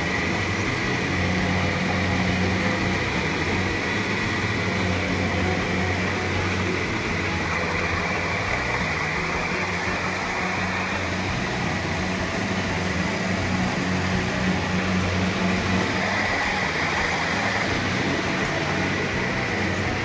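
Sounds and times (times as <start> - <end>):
harvester engine drone: 0.0 - 20.0
steady high whine: 0.0 - 20.0.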